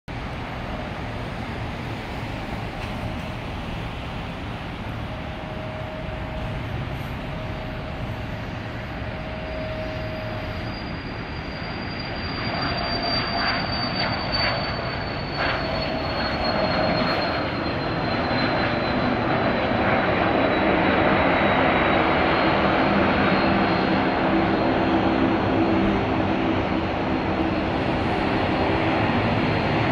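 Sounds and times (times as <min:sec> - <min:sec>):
high jet whine: 0:00.1 - 0:29.9
jet engine roar: 0:00.1 - 0:29.9.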